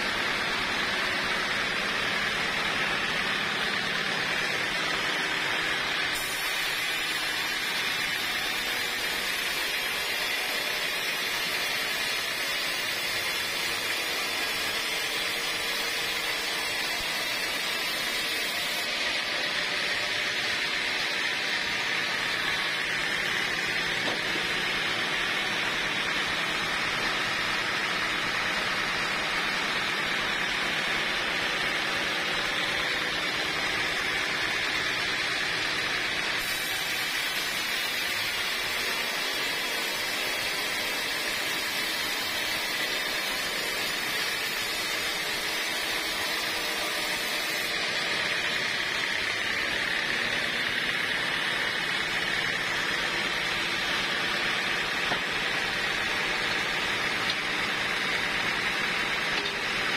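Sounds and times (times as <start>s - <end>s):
saw blade hissing through wood: 0.0s - 59.9s
sawmill machine running: 0.0s - 59.9s.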